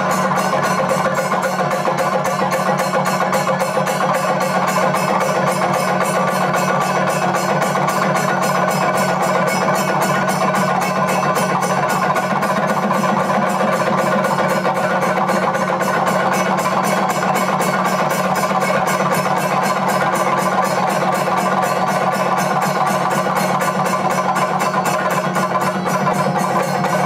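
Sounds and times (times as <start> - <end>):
drums beaten with sticks: 0.0 - 27.0
hand cymbals: 0.0 - 27.0.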